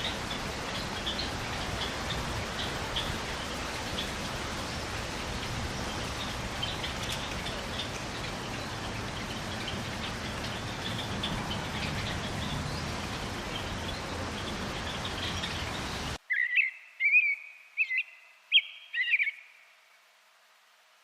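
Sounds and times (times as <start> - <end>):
small birds chirping: 0.0 - 19.6
steady outdoor hiss: 0.0 - 21.0.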